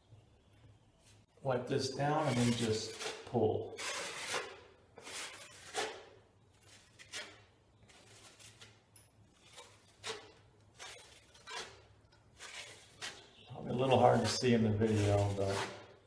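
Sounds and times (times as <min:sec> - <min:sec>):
drywall blade swiping compound: 0:02.2 - 0:08.8, 0:09.4 - 0:16.0.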